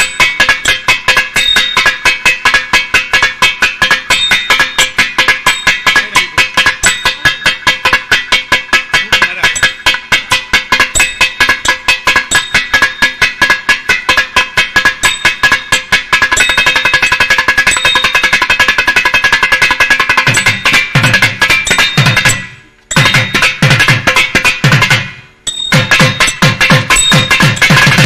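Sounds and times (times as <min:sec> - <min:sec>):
drum sharp ringing strokes: 0:00.0 - 0:28.0.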